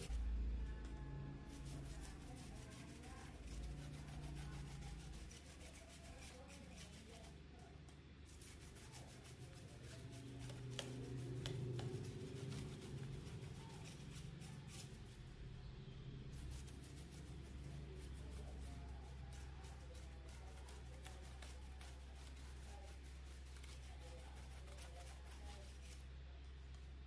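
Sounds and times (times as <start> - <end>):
low steady hum: 0.0 - 27.0
rubbing and scraping by hand: 1.5 - 7.4, 8.3 - 15.2, 16.3 - 26.1.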